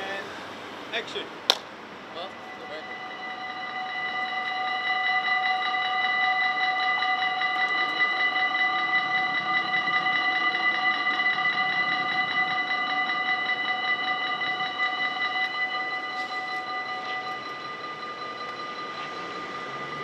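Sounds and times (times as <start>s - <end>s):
level-crossing warning bell ringing: 2.0s - 20.0s.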